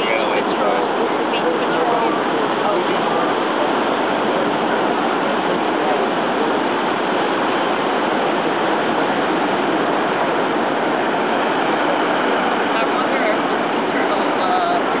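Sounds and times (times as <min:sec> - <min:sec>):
ocean surf breaking on sand: 0:00.0 - 0:15.0.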